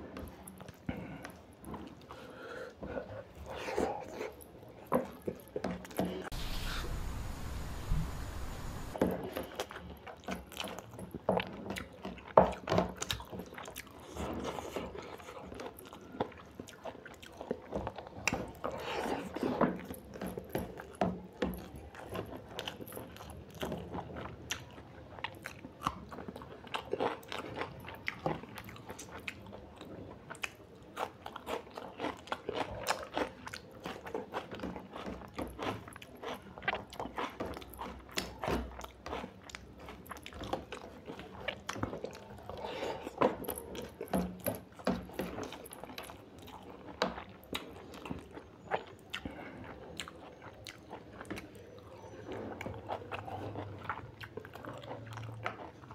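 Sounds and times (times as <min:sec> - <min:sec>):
person chewing: 0:00.2 - 0:55.9.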